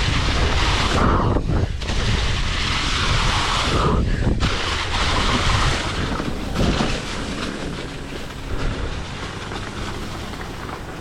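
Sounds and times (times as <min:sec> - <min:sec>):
mountain bike rolling on dirt: 0:00.0 - 0:11.0.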